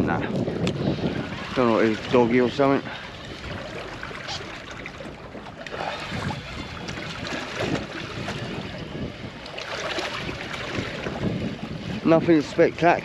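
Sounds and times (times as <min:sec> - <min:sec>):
water noise: 0:00.0 - 0:13.0
wind buffeting microphone: 0:00.0 - 0:13.0.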